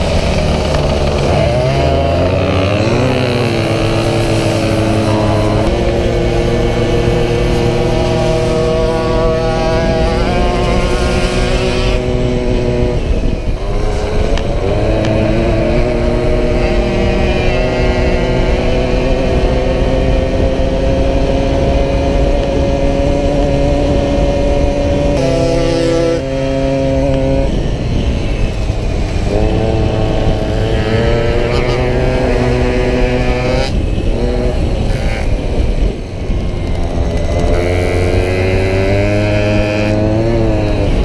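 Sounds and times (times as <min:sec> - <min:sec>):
moped engine running: 0:00.0 - 0:41.0
second engine: 0:00.0 - 0:41.0
wind rushing: 0:00.0 - 0:41.0.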